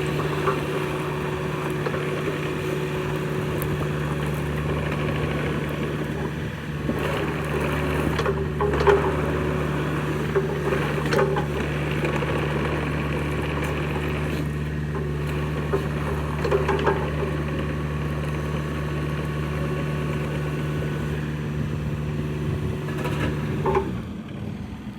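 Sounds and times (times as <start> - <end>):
diesel excavator engine running: 0.0 - 24.9.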